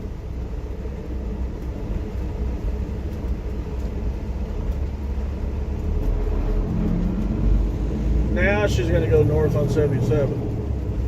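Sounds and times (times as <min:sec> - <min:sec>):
vehicle rumbling on wet road: 0:00.0 - 0:11.0.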